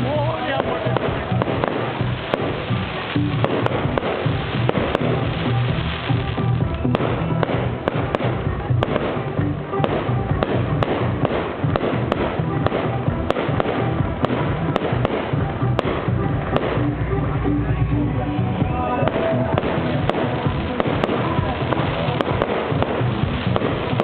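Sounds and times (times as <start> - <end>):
fireworks bangs and cracks: 0.0 - 24.0
music playing: 0.0 - 24.0.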